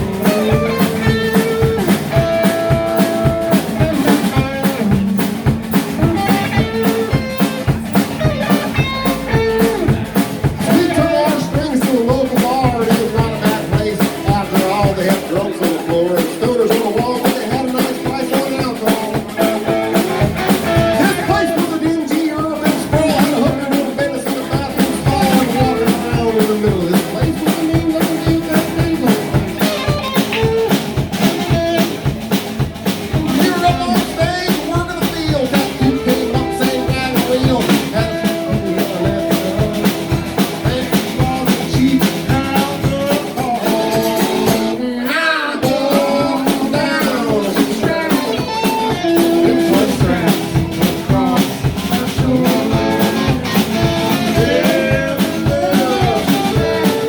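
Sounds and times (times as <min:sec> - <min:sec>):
drum kit beat: 0:00.0 - 0:57.0
guitar: 0:00.0 - 0:57.0
live band playing: 0:00.0 - 0:57.0.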